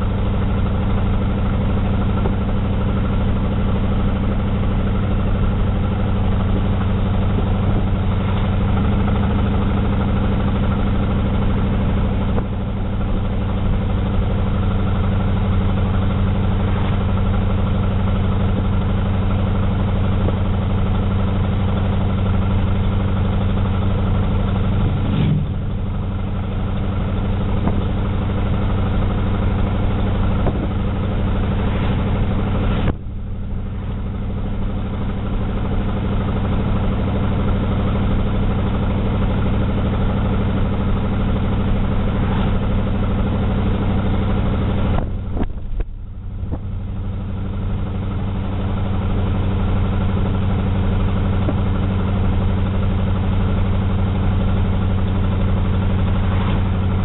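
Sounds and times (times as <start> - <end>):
car engine drone inside cabin: 0.0 - 57.0.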